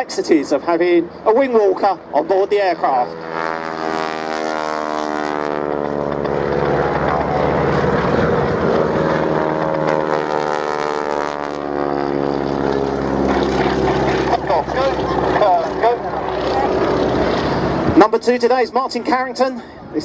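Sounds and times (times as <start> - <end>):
biplane engine droning: 0.0 - 20.0.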